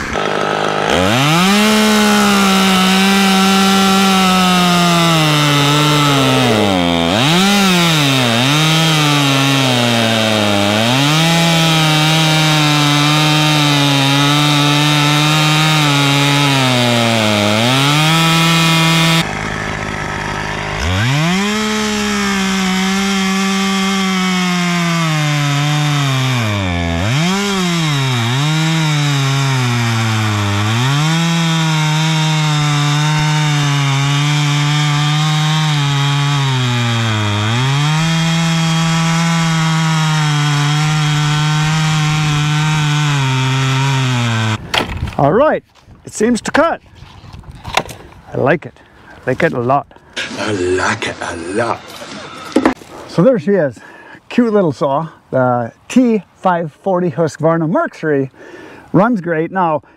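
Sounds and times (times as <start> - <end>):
chainsaw cutting wood: 0.0 - 45.3, 46.3 - 48.2, 48.8 - 53.4.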